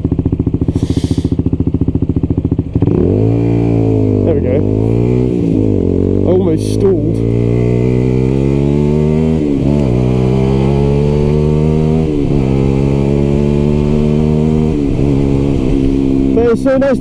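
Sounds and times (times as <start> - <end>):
motorcycle accelerating through gears: 0.0 - 17.0.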